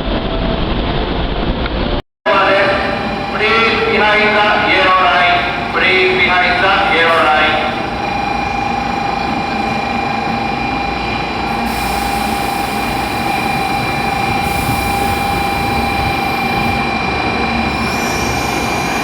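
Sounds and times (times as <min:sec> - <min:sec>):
train running rumble: 0:00.0 - 0:19.0
steady high whine: 0:02.3 - 0:19.0.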